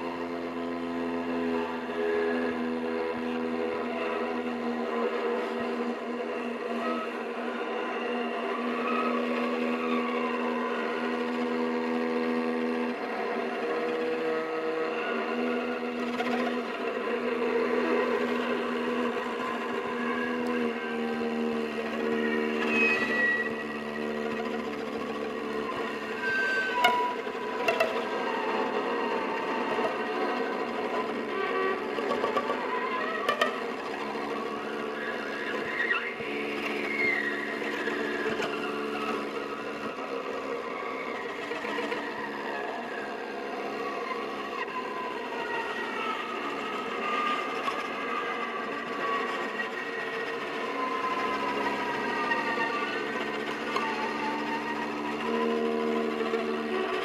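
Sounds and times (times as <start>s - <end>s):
violas bowed: 0.0s - 57.0s
high tone sliding downward: 0.3s - 57.0s.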